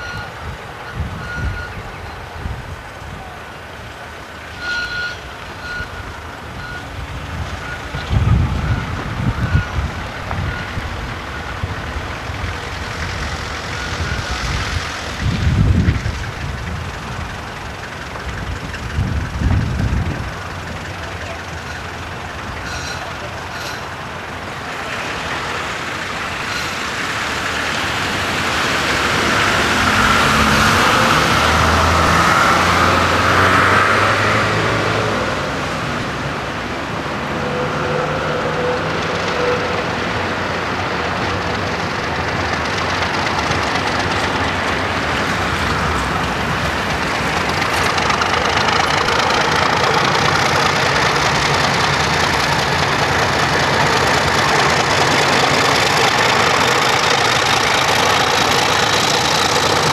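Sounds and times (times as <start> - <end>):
wagons rolling on rails: 0.0 - 33.8, 35.8 - 59.9
diesel locomotive engine hum: 0.0 - 59.9.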